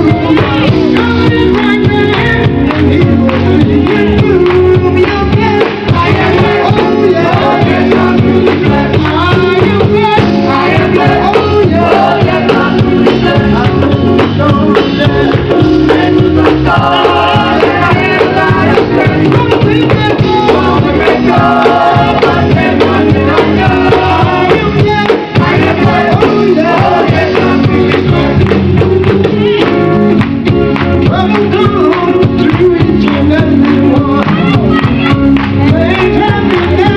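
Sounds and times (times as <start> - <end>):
drums and bass: 0.0 - 36.9
gospel group singing: 0.0 - 36.9.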